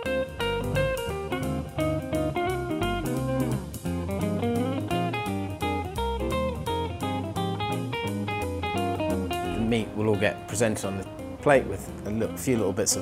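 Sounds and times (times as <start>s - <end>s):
bass line: 0.0s - 12.4s
plucked guitar instrumental: 0.0s - 13.0s.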